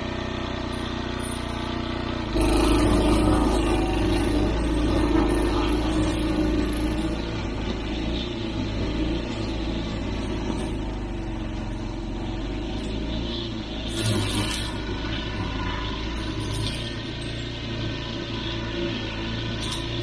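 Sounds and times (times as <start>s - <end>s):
lawn mower cutting grass: 0.0s - 20.0s.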